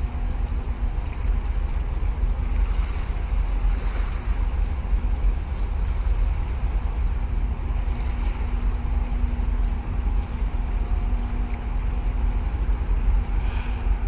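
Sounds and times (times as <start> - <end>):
faint ship engine hum: 0.0 - 14.0
wind rumbling on microphone: 0.0 - 14.0.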